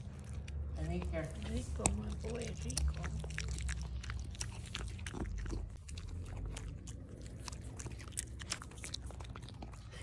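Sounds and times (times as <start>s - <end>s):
dog chewing meat: 0.0s - 10.0s.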